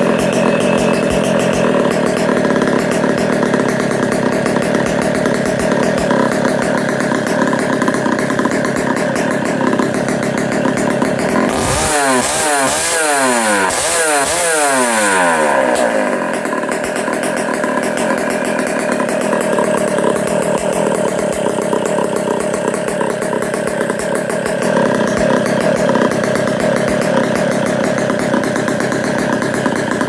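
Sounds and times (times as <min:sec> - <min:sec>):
kart engine revving: 0:00.0 - 0:30.0.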